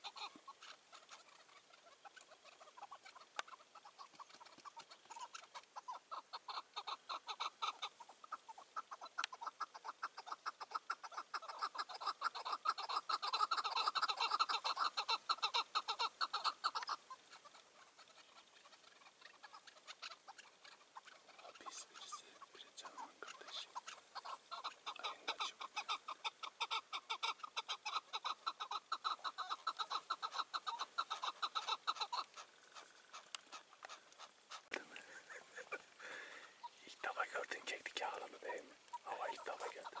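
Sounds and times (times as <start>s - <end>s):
partridges clucking: 0.0s - 40.0s.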